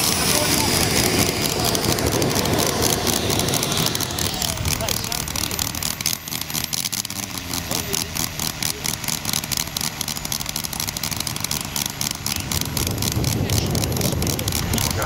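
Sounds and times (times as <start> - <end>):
model aircraft engine running: 0.0 - 15.0.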